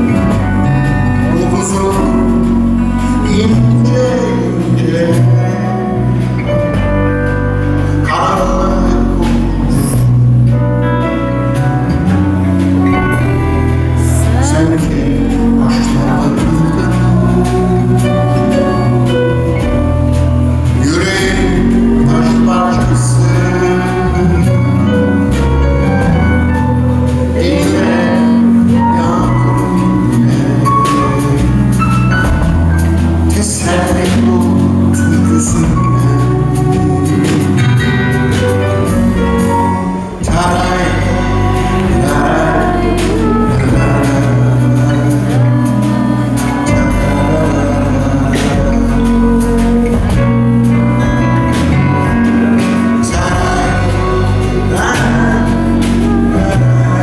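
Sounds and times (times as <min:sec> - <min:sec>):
live band playing: 0:00.0 - 0:57.0
man singing: 0:00.0 - 0:57.0.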